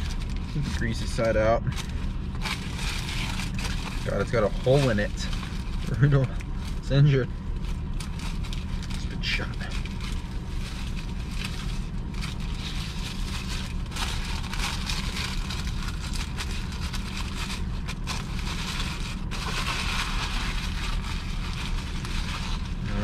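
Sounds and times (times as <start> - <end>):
truck engine humming: 0.0 - 23.0
wrapper crinkling: 0.0 - 23.0.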